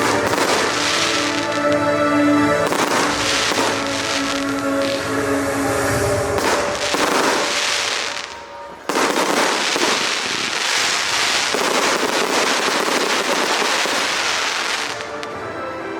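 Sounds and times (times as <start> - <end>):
fireworks barrage: 0.0 - 15.6.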